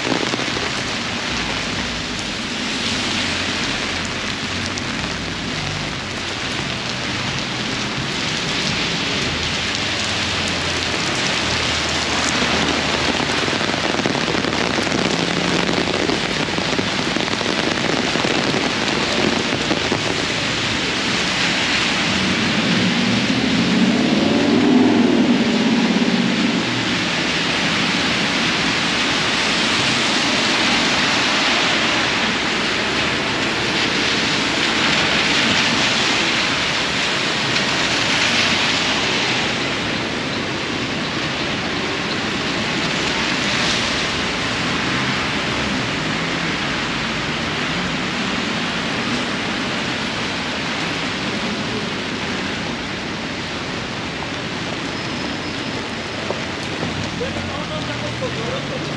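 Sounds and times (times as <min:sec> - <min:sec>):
cars swishing on wet street: 0:00.0 - 0:58.9
heavy rain on umbrella: 0:00.0 - 0:58.9.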